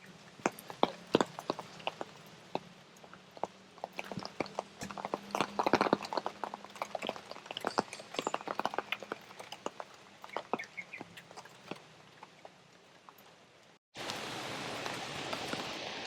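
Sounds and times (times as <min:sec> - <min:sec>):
raindrops tapping on an umbrella: 0:00.0 - 0:16.0.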